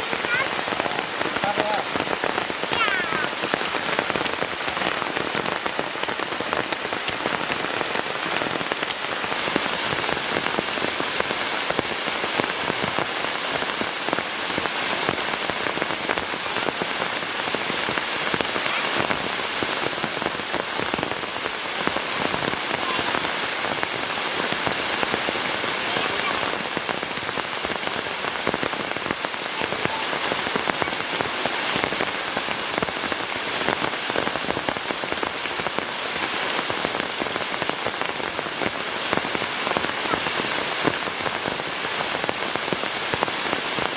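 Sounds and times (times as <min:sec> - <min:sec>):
heavy rain pattering: 0:00.0 - 0:43.9.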